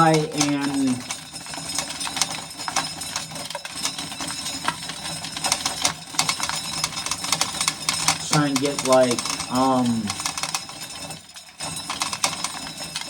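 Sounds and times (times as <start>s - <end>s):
corn sheller clattering: 0.0s - 13.0s.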